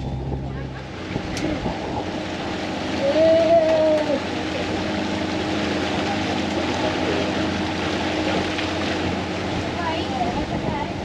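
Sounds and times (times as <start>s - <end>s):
drawn-out tone: 0.0s - 10.3s
boat motor running: 0.0s - 11.0s
rushing water and wind: 0.0s - 11.0s.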